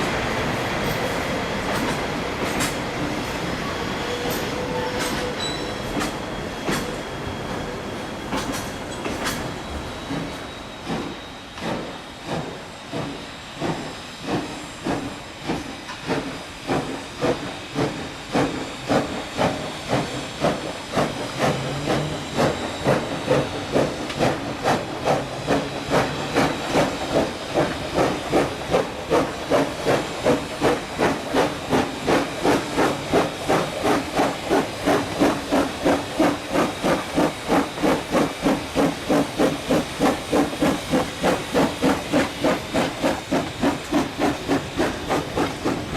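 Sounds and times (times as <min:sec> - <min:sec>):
steam locomotive chuffing: 0:00.0 - 0:45.9.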